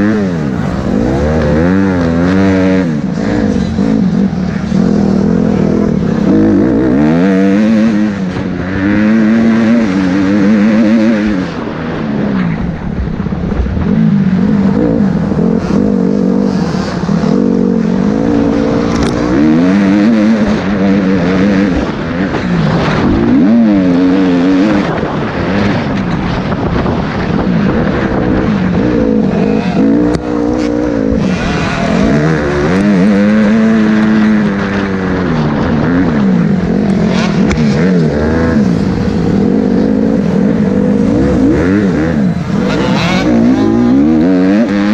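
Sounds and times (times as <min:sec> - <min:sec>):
motorbike engine revving: 0:00.0 - 0:44.9.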